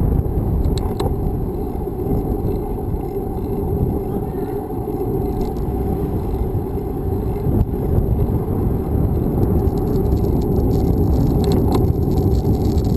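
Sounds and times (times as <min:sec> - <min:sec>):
road noise: 0:00.0 - 0:12.9
wind buffeting microphone: 0:00.0 - 0:12.9
faint ticks: 0:00.6 - 0:12.9.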